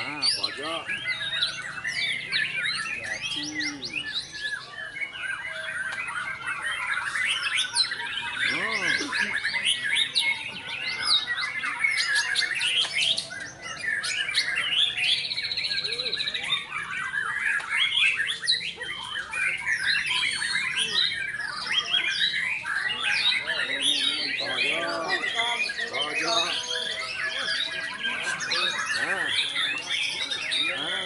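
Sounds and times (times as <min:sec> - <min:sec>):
bird trilling: 0:00.0 - 0:31.0
caged songbirds singing: 0:00.0 - 0:31.0.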